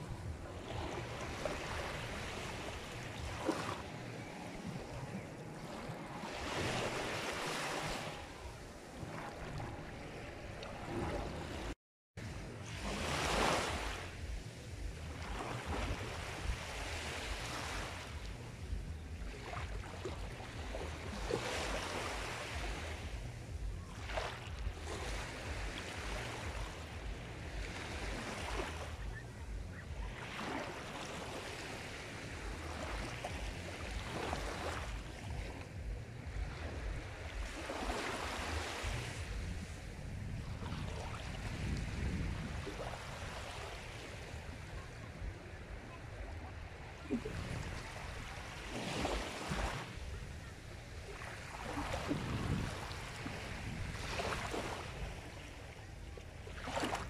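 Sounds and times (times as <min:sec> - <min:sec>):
sea waves surf: 0:00.0 - 0:57.0.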